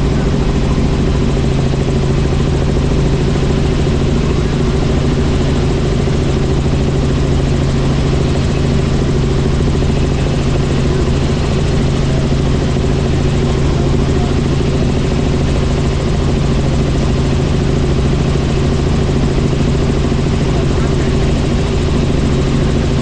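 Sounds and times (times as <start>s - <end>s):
helicopter rotor drone: 0.0s - 23.0s.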